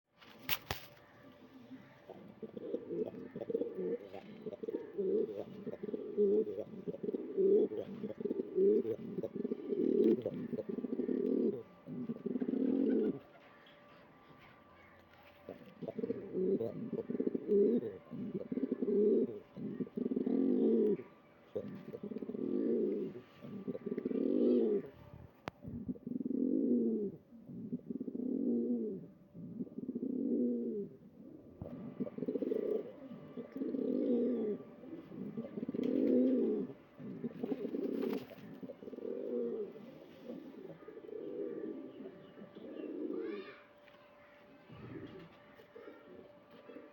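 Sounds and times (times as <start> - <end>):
pigeons cooing: 0.9 - 46.9.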